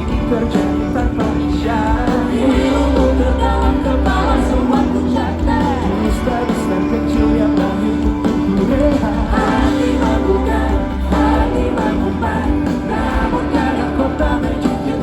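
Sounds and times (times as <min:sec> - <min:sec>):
lead vocal singing: 0:00.0 - 0:15.0
live band playing pop-rock: 0:00.0 - 0:15.0.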